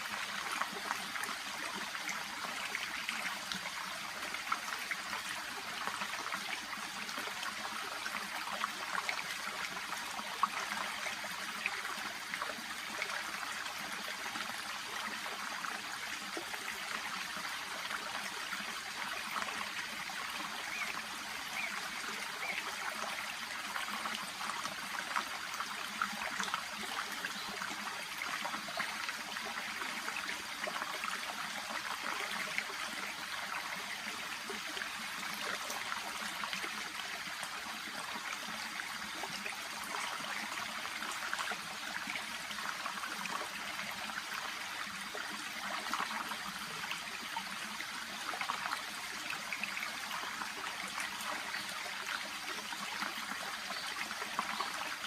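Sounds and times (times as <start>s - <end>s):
brook babbling over stones: 0.0s - 55.0s.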